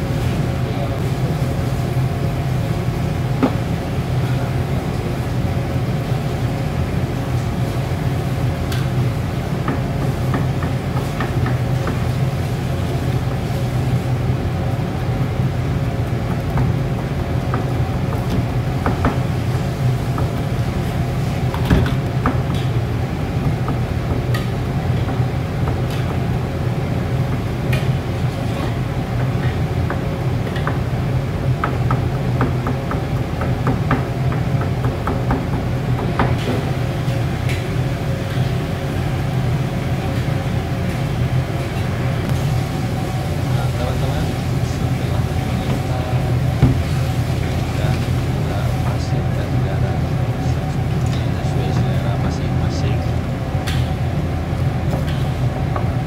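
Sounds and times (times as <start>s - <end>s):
gas burner roaring: 0.0s - 56.0s.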